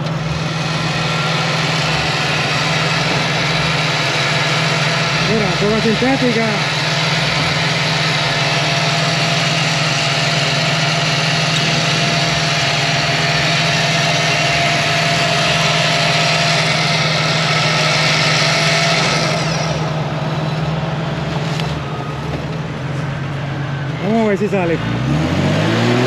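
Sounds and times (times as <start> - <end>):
electric winch motor whine: 0.0 - 24.4
car engine idling: 0.0 - 25.0.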